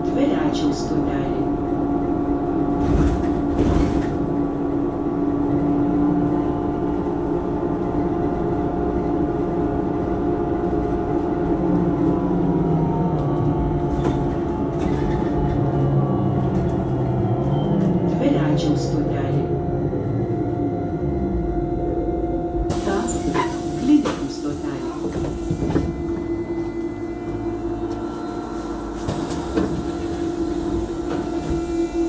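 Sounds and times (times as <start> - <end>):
road rumble: 0.0 - 32.0.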